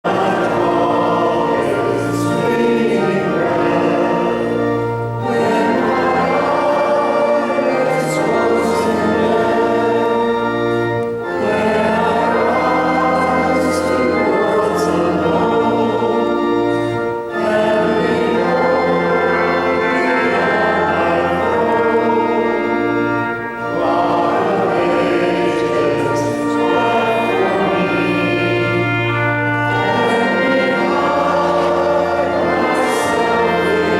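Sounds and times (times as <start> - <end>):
group singing a hymn: 0.0 - 33.9
organ accompaniment: 0.0 - 33.9.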